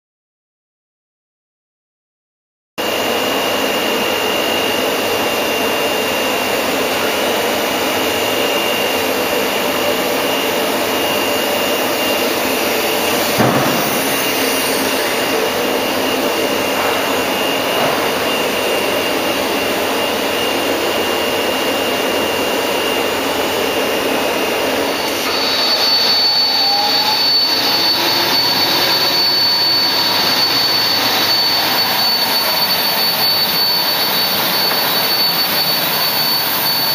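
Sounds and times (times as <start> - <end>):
boring machine whining: 2.8 - 36.9.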